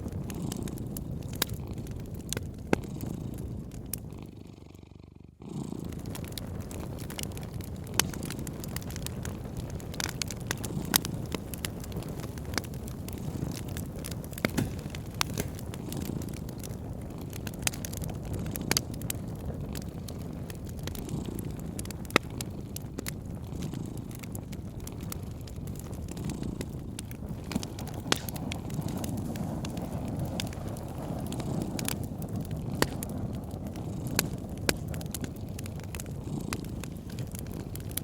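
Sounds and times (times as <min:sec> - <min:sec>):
cat purring: 0:00.0 - 0:38.0
wood fire crackling: 0:00.0 - 0:38.0.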